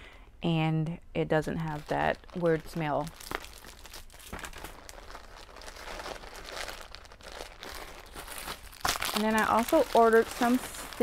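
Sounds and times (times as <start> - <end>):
plastic packaging crinkling: 1.6 - 11.0.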